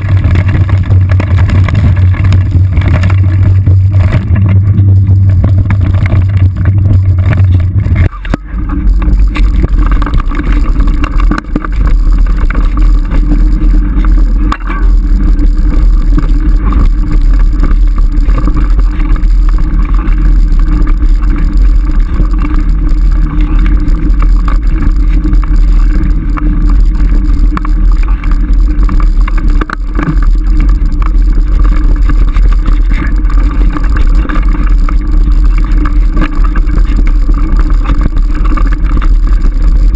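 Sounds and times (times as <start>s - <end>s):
wind buffeting on camera: 0.0s - 39.9s.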